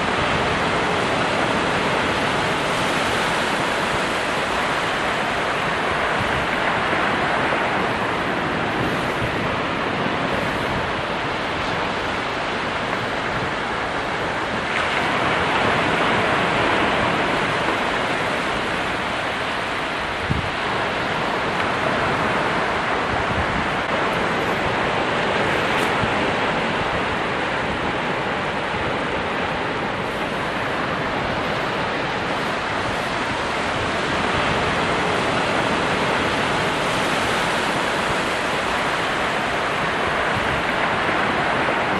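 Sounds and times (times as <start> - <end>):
waves breaking: 0.0 - 41.9.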